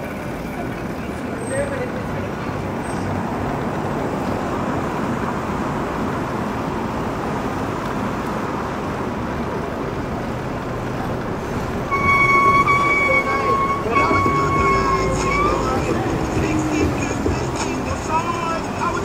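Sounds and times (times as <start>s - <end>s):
traffic noise from passing vehicles: 0.0s - 19.0s.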